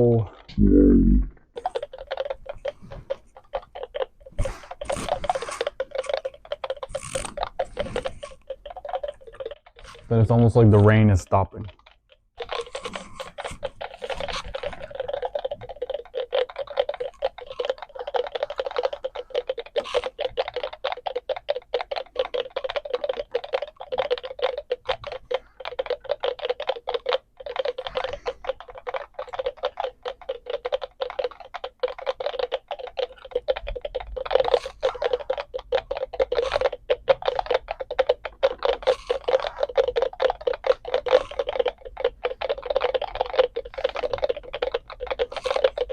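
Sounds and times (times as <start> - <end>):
electronic clicks like patter: 0.0 - 45.9.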